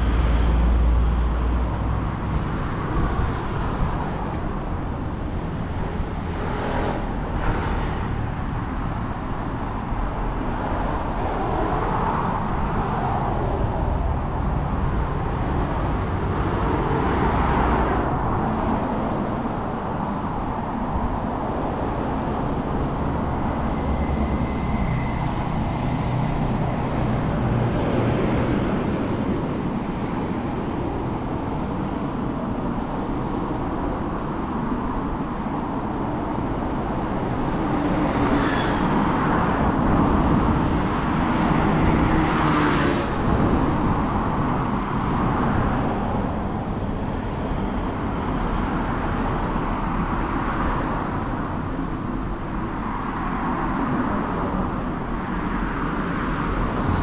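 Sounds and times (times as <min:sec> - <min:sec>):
cars passing: 0:00.0 - 0:57.0.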